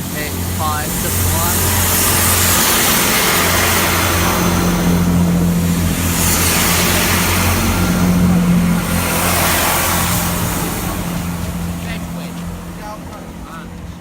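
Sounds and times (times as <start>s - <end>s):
diesel train engine drone: 0.0s - 14.0s
wheels rushing on rail: 0.0s - 14.0s.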